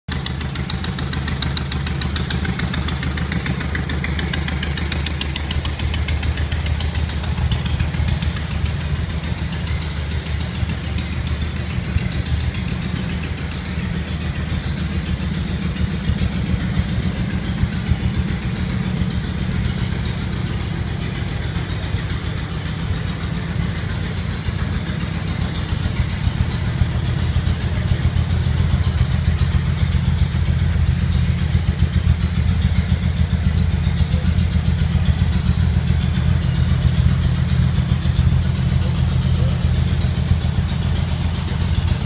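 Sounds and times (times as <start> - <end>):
car engine idling with ticking: 0.0 - 42.0.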